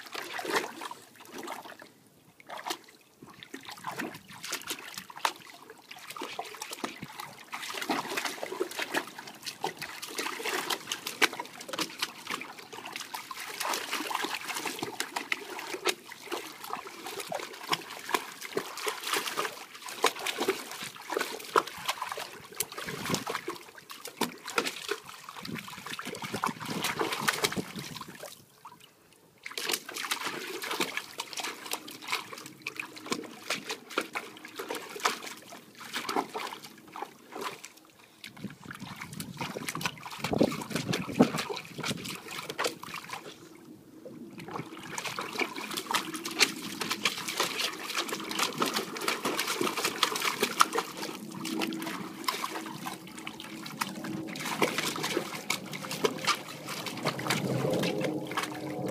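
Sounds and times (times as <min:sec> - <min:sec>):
water splashing in plastic pool: 0:00.0 - 0:58.9.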